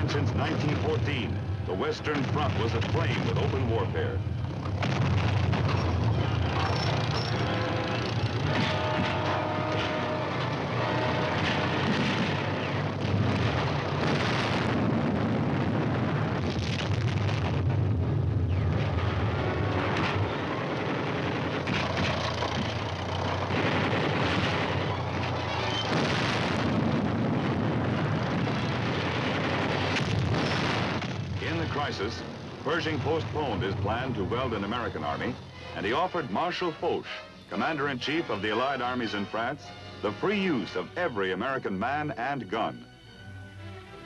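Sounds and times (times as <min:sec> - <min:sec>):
rumble of battle: 0:00.0 - 0:35.5
artillery shells exploding: 0:00.0 - 0:36.0.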